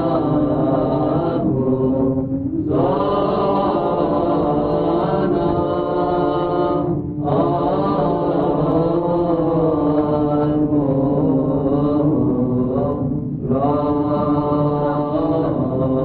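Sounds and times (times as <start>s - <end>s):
slow chanting of held notes: 0.0s - 16.0s
steady drone note: 0.0s - 16.0s.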